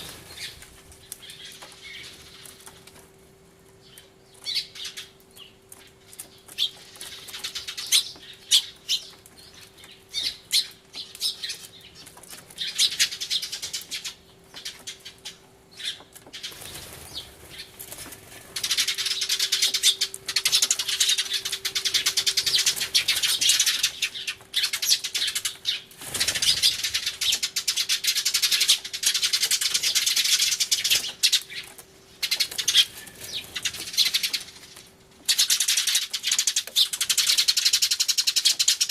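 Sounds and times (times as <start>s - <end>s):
sparrows chirping: 0.0s - 2.8s, 3.8s - 17.8s, 18.5s - 38.9s.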